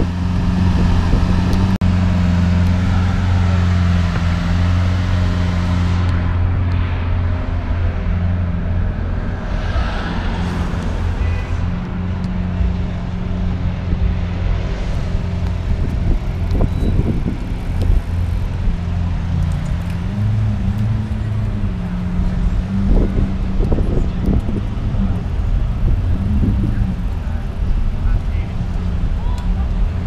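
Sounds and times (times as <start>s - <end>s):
car engine humming: 0.0s - 30.0s
street traffic: 0.0s - 30.0s.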